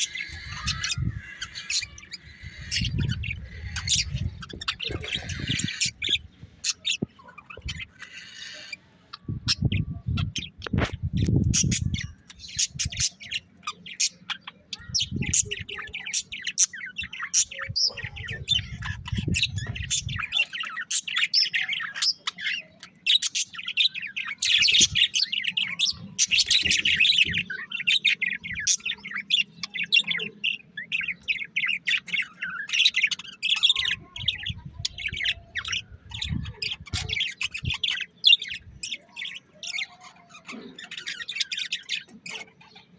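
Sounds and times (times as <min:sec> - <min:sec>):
caged birds chirping: 0:00.0 - 0:42.9.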